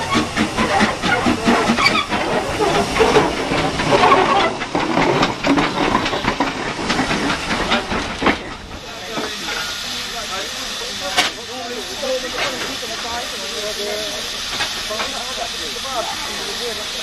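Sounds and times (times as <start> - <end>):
locomotive exhaust beats: 0.0 - 17.0
steam hissing: 0.0 - 17.0.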